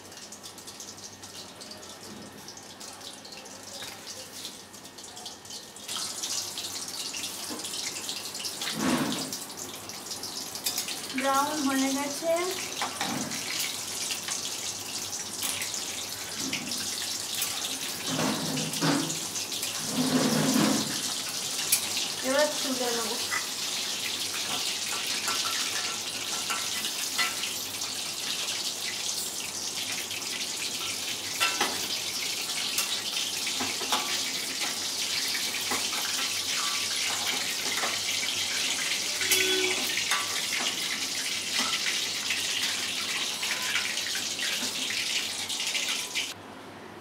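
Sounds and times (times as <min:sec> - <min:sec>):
chicken sizzling in hot oil: 0:00.0 - 0:46.4.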